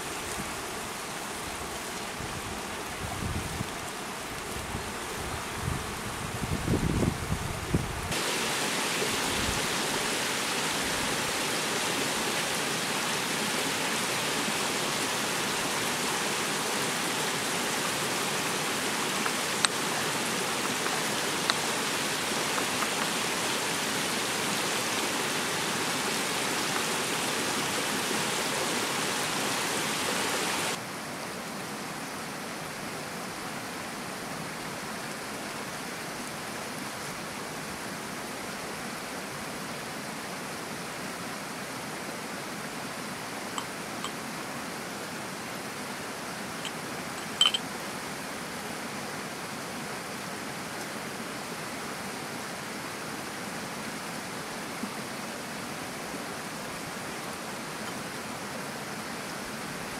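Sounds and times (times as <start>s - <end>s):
stream water running: 0.0s - 59.9s.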